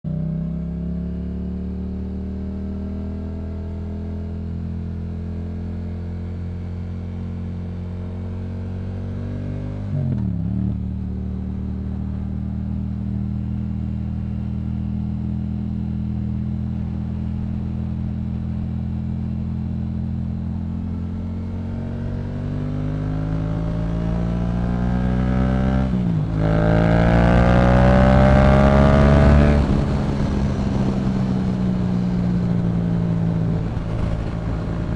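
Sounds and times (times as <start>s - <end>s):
motorcycle engine cruising: 0.1s - 34.9s.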